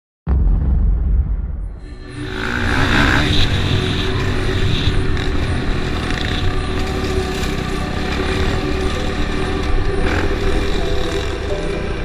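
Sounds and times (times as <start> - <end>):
dirt bike engine running: 2.1 - 12.0.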